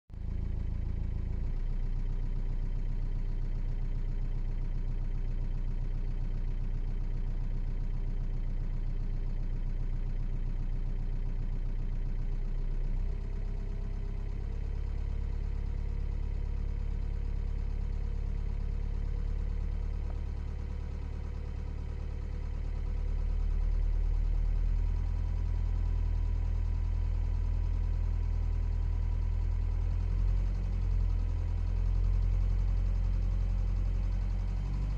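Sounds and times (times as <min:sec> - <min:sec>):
diesel engine low hum: 0:00.1 - 0:34.9.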